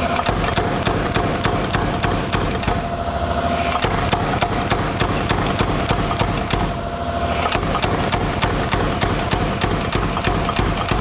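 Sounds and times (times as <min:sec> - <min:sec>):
power hammer pounding steel: 0:00.0 - 0:11.0
steady mechanical hum: 0:00.0 - 0:11.0.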